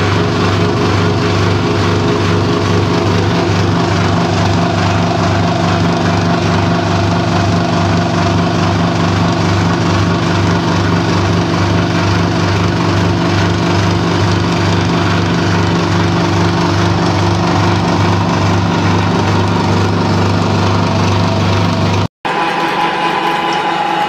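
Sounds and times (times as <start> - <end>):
pellet mill motor humming: 0.0 - 24.0.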